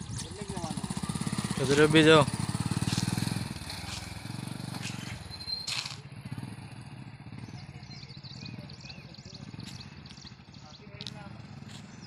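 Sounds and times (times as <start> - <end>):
motorcycle engine riding away: 0.0 - 12.0.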